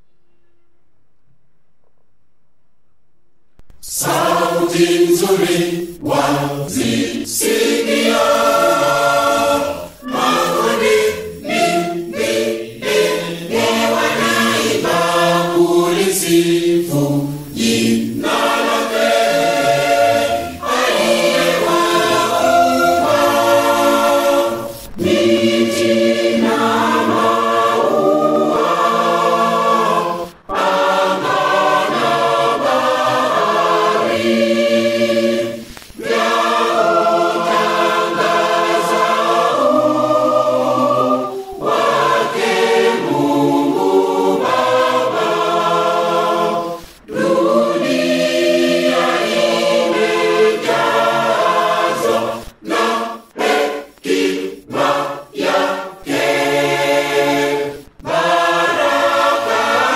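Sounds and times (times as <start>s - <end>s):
choir singing a hymn: 3.8s - 59.9s.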